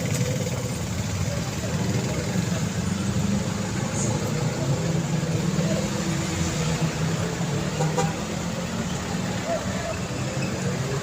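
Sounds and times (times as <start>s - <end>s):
rumble of passing cars: 0.0s - 11.0s
vehicle engines humming: 0.0s - 11.0s.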